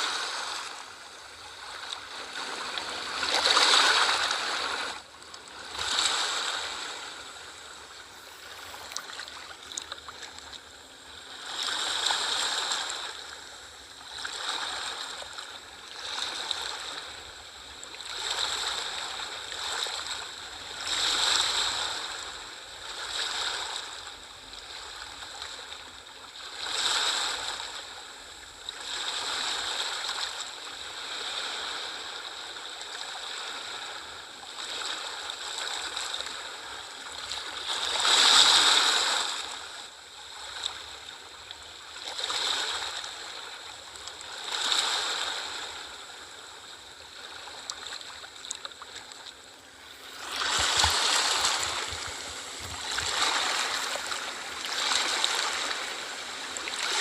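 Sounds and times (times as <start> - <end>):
small sea waves washing: 0.0 - 57.0.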